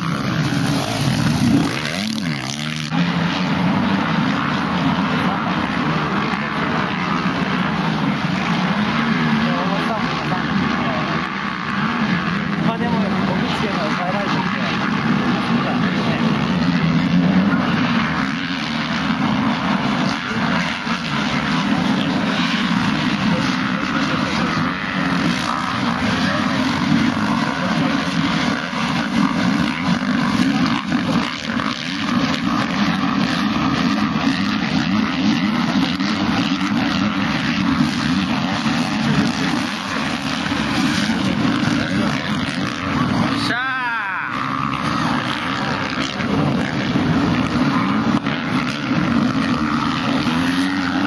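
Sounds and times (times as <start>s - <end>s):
dirt bike engines buzzing: 0.0s - 51.0s.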